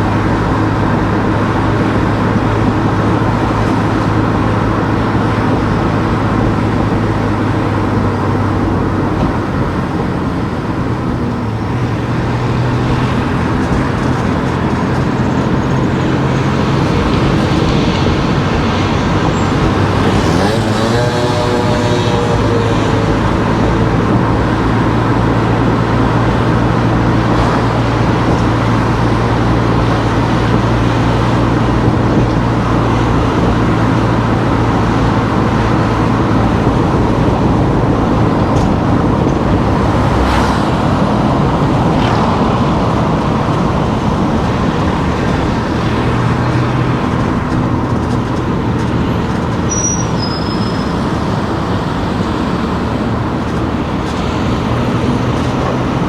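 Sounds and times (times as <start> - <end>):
car engine and road noise: 0.0 - 56.0
low engine hum: 0.0 - 56.0.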